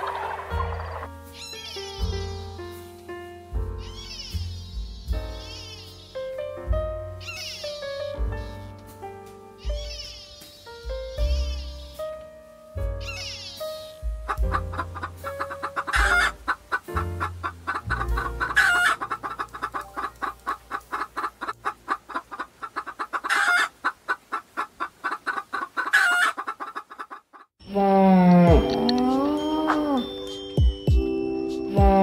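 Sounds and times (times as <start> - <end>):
soft background music: 0.0 - 22.5, 27.6 - 32.0.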